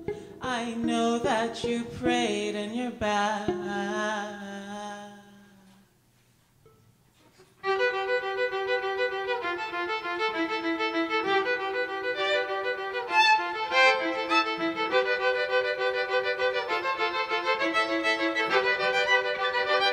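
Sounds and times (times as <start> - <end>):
solo violin bowed: 0.0 - 4.4, 7.6 - 19.9.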